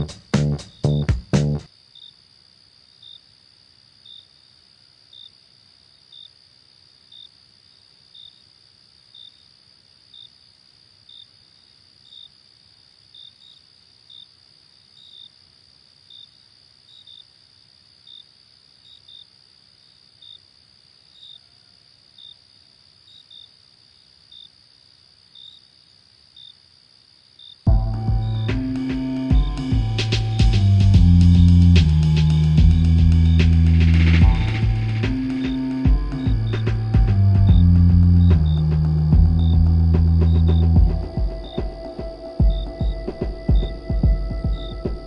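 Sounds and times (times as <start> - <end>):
cricket chirping: 0.0 - 45.0
insects droning: 0.0 - 45.0.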